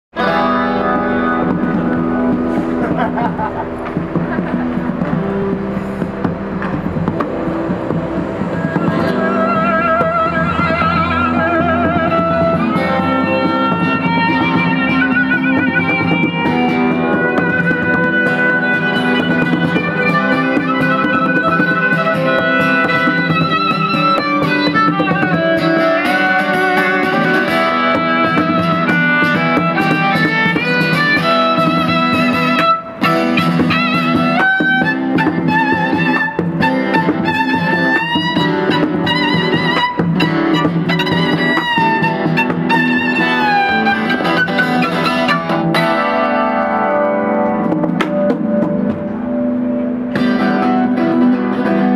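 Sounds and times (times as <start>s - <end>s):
acoustic guitar strummed hard: 0.1s - 51.9s
violin melody: 0.2s - 51.9s.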